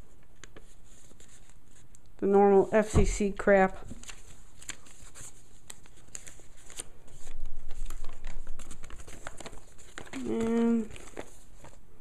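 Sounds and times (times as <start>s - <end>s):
paper rustling: 0.0s - 2.0s, 2.6s - 11.8s.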